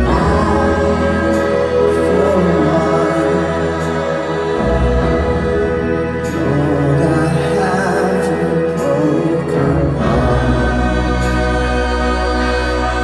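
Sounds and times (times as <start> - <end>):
live band and choir playing: 0.0 - 13.0.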